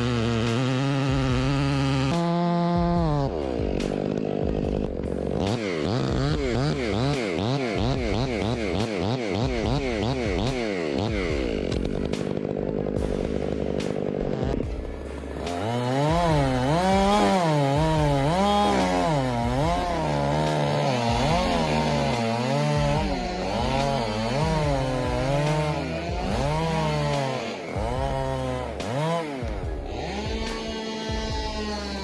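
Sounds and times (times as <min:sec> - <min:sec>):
chainsaw cutting wood: 0:00.0 - 0:32.0.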